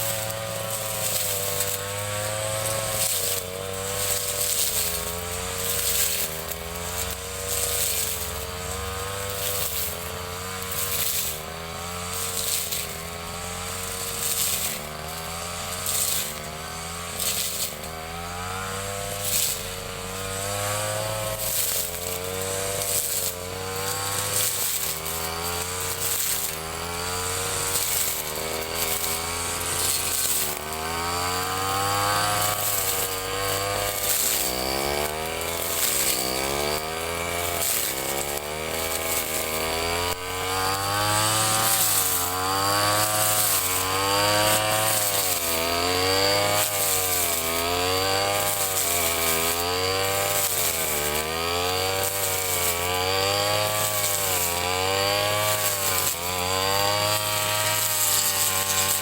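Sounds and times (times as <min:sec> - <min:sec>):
brush cutter cutting grass: 0:00.0 - 0:59.0.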